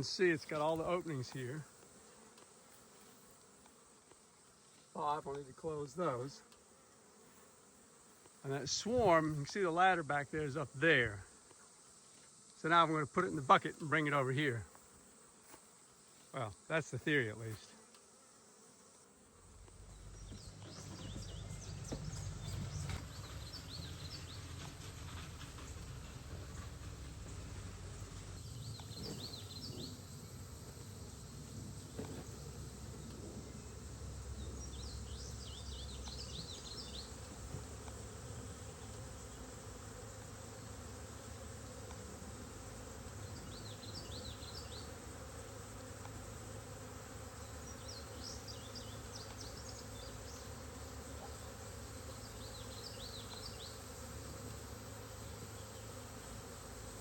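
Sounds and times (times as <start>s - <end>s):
bee swarm buzzing: 0.0s - 57.0s.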